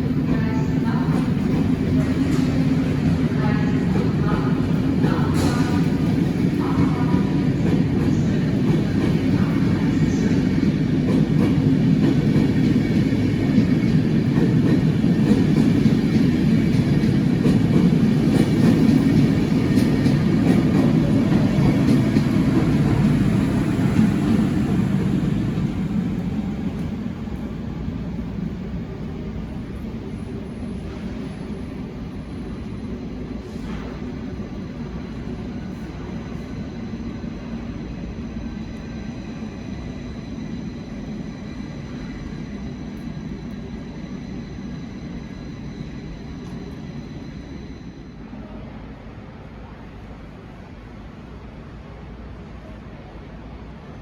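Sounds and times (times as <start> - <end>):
train rumbling on tracks: 0.0 - 54.0.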